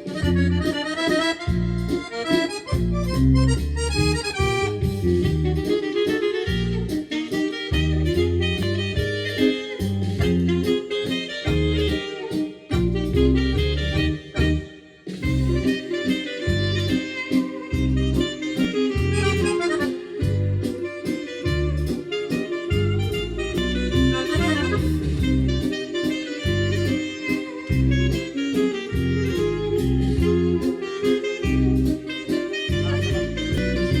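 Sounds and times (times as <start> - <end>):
instrumental dance music: 0.0 - 34.0.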